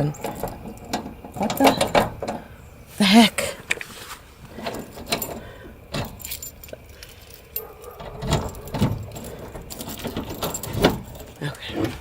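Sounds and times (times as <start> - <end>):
keys jangling: 0.0 - 2.6, 3.6 - 12.0.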